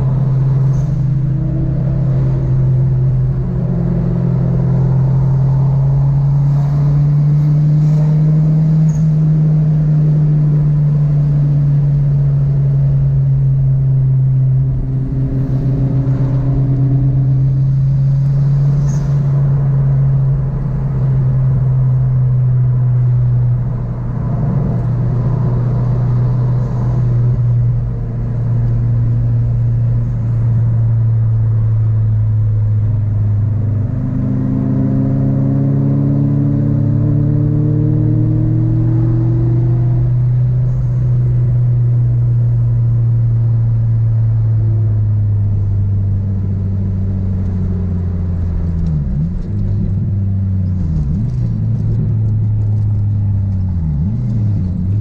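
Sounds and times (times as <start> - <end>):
car engine drone: 0.0 - 55.0.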